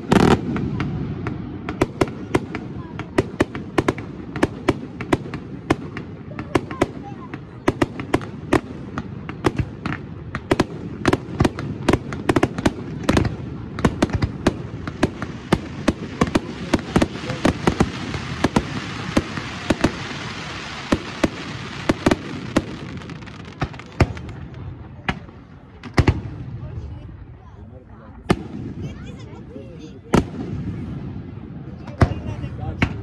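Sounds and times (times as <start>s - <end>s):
firework bangs: 0.0s - 26.9s, 28.2s - 29.2s, 30.0s - 33.0s.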